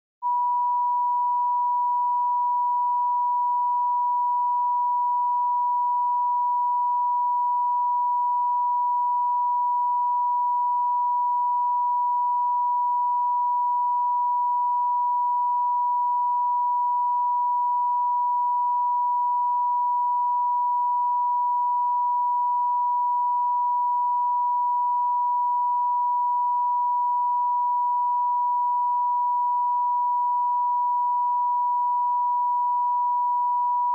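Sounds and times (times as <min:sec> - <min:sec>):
sine-wave test tone: 0:00.2 - 0:33.9.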